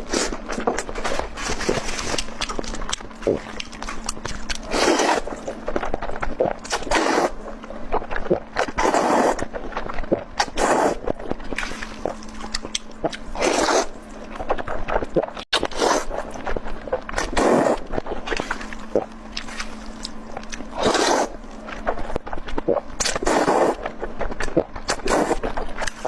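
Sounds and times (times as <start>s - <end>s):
crunchy bites: 0.0s - 26.0s
person chewing and biting: 0.0s - 26.0s.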